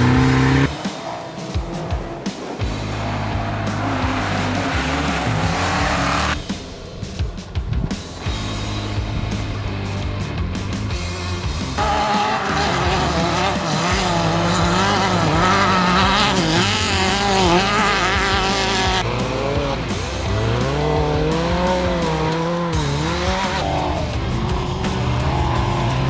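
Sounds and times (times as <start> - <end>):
background music: 0.0 - 26.0
race car engine revving: 0.0 - 26.0.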